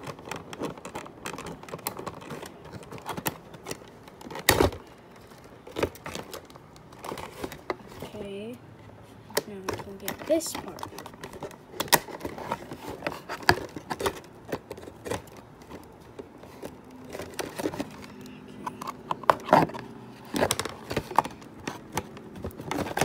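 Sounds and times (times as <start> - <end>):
packaging rustling: 0.0 - 23.0.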